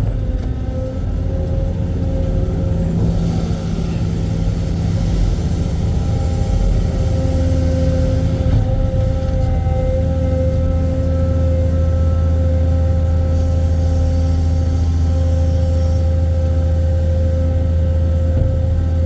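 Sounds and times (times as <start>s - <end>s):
excavator engine droning: 0.0s - 19.0s
hydraulic whine: 0.0s - 19.0s.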